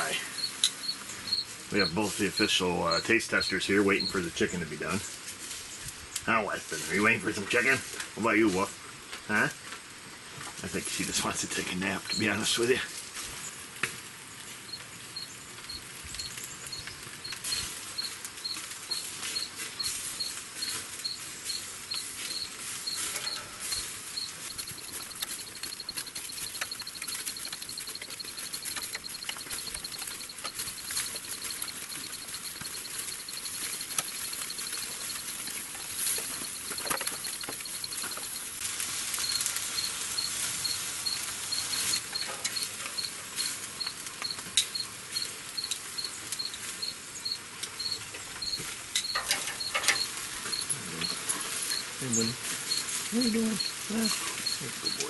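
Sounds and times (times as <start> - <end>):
high insect chirp: 0.0 - 5.0, 11.0 - 12.8, 14.6 - 55.0
chicken sizzling on a grill: 0.0 - 55.0.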